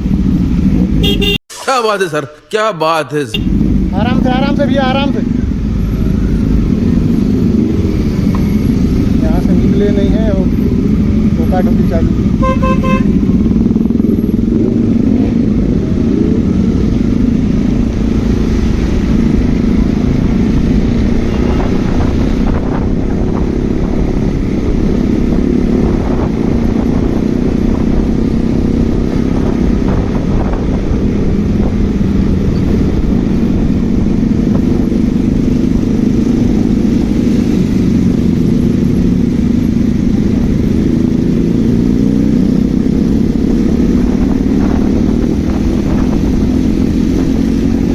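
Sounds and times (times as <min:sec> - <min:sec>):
motorcycle engine running: 0:00.0 - 0:01.4, 0:03.3 - 0:47.9.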